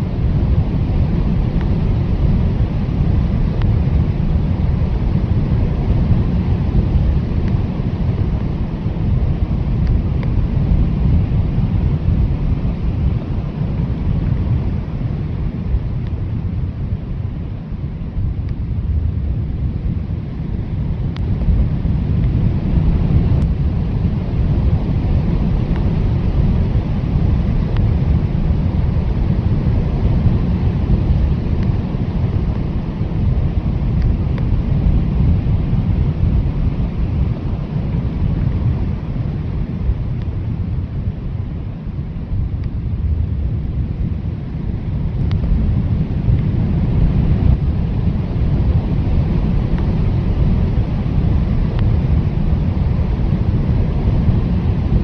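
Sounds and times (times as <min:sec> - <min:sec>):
blizzard wind blowing: 0:00.0 - 0:55.0.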